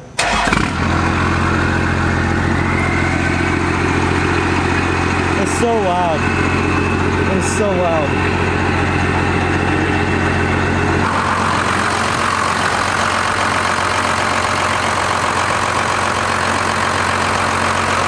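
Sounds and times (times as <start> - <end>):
diesel engine idling: 0.2 - 18.0
deep exhaust drone: 0.5 - 18.0.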